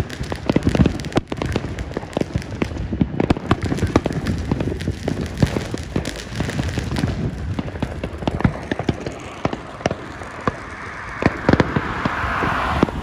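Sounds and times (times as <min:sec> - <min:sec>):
fireworks banging and popping: 0:00.0 - 0:13.0.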